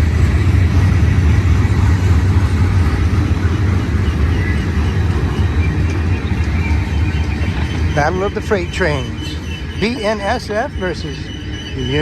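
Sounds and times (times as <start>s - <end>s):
freight train running past: 0.0s - 12.0s.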